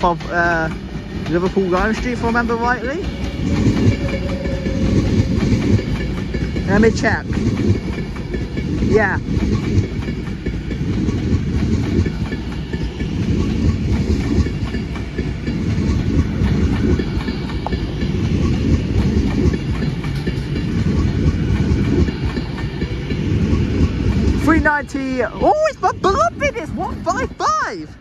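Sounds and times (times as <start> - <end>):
train wheels rolling on rails: 0.0 - 28.0.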